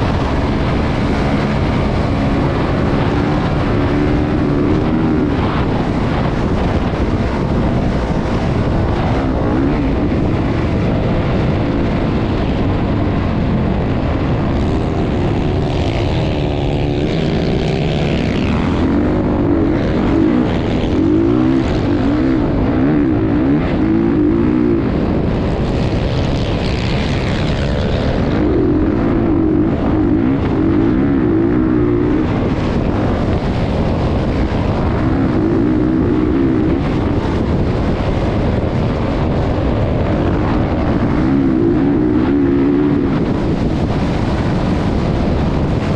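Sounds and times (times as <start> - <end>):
motocross bike engine revving: 0.0 - 38.2
wind rumbling on microphone: 0.0 - 45.9.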